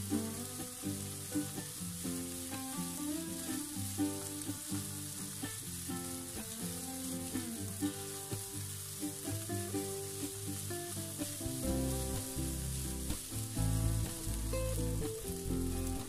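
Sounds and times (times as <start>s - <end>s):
background music with held notes: 0.0s - 16.0s
fried rice sizzling in a frying pan: 0.0s - 16.0s.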